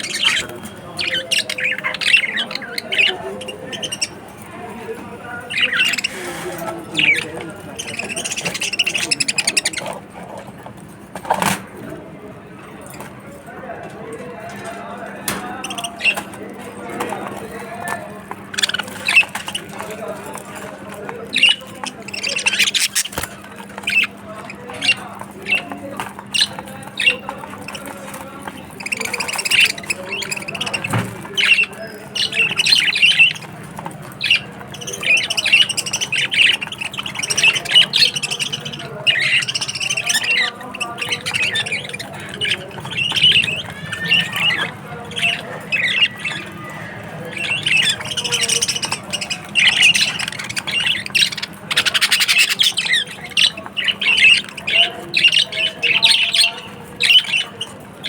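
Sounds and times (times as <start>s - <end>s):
budgerigars chattering and squawking: 0.0s - 11.9s, 14.4s - 58.0s.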